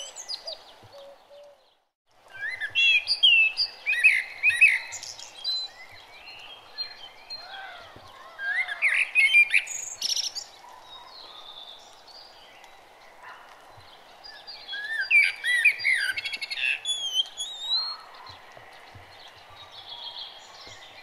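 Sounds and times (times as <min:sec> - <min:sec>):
birds chirping and trilling: 0:00.0 - 0:21.0.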